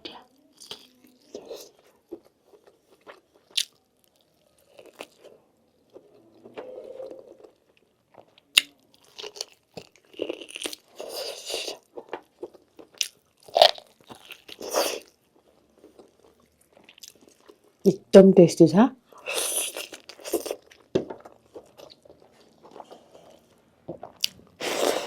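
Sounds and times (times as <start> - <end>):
chewing meat: 0.5 - 17.8, 19.2 - 25.0.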